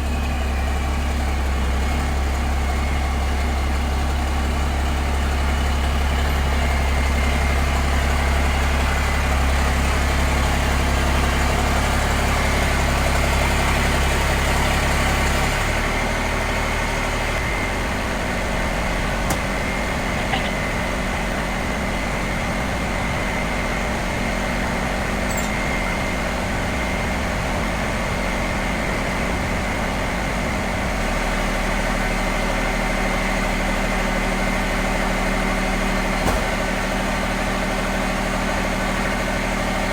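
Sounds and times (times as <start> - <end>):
pickup truck engine idling: 0.0 - 39.9.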